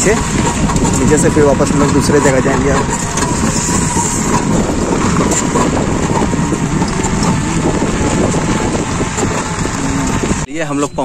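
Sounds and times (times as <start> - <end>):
vehicle rumbling on dirt road: 0.0 - 11.0.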